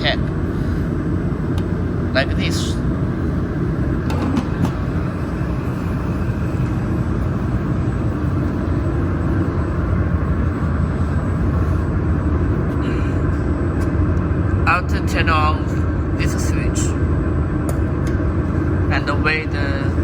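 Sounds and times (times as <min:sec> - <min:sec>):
water chiller humming: 0:00.0 - 0:20.0.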